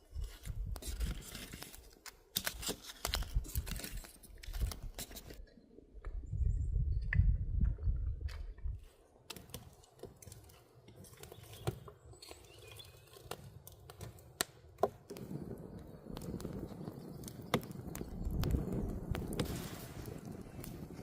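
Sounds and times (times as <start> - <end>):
low outdoor background: 0.0 - 21.0.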